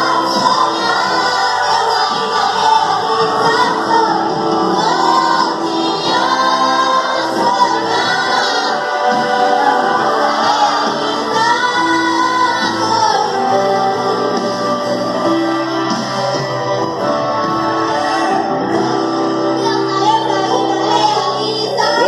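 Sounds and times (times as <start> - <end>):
backing music: 0.0 - 22.0
women singing gospel: 0.0 - 22.0.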